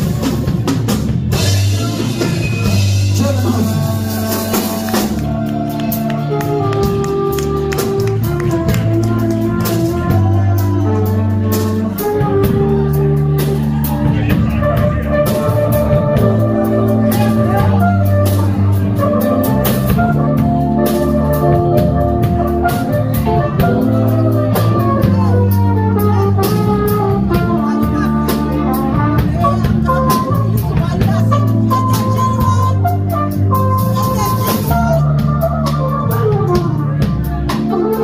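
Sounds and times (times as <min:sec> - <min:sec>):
drum kit with cymbals: 0:00.0 - 0:38.0
electric bass lines: 0:00.0 - 0:38.0
keyboard: 0:00.0 - 0:38.0
flugelhorn melody: 0:01.3 - 0:38.0.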